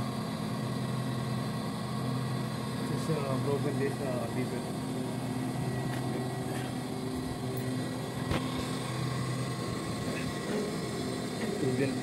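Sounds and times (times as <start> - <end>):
fan motor humming: 0.0 - 12.0.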